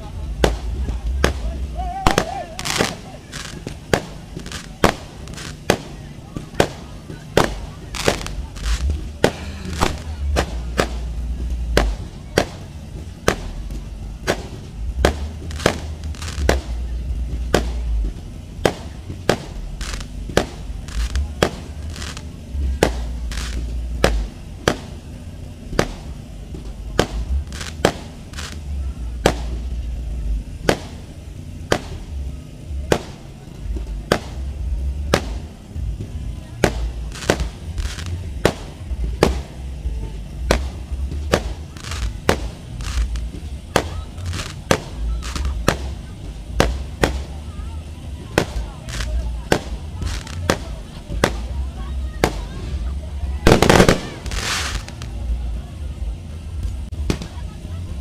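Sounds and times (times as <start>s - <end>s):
fireworks bangs: 0.0s - 58.0s
low rumble: 0.0s - 58.0s.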